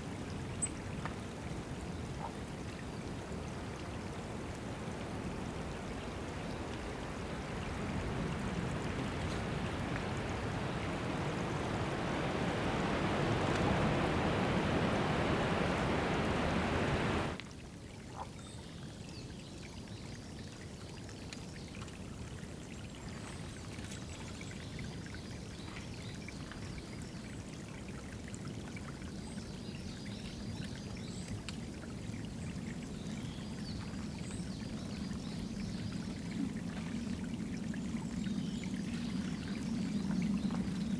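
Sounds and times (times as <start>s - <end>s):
water trickling into pool: 0.1s - 14.6s, 17.2s - 40.9s.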